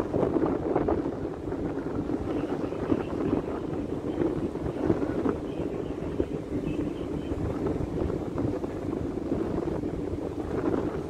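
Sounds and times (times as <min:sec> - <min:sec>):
ship engine rumble: 0:00.0 - 0:11.0
wind buffeting microphone: 0:00.0 - 0:11.0.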